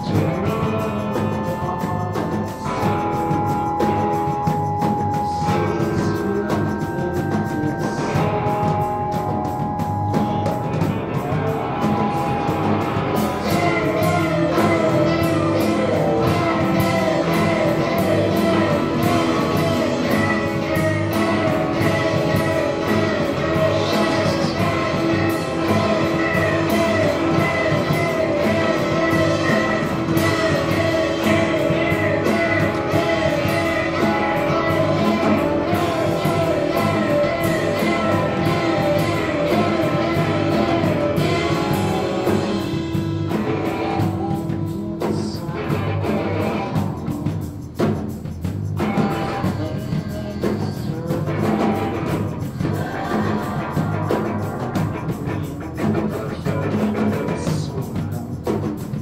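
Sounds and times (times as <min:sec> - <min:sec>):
person singing: 0:00.0 - 0:47.9, 0:48.8 - 0:59.0
drums: 0:00.0 - 0:59.0
electric guitar: 0:00.0 - 0:59.0.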